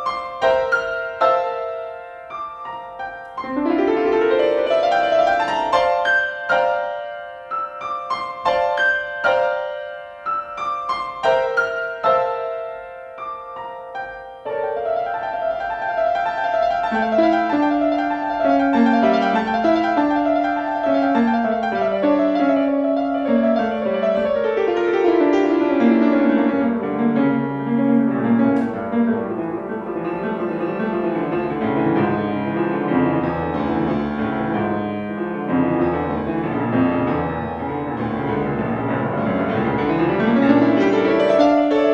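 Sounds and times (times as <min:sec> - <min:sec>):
solo classical piano: 0:00.0 - 0:41.9.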